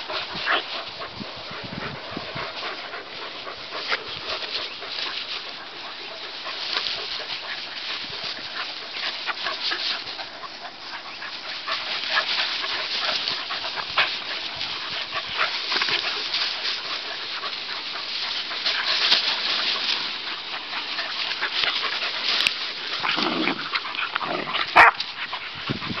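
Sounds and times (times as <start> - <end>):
dogs playing: 0.0 - 26.0
grass rustling: 0.0 - 26.0.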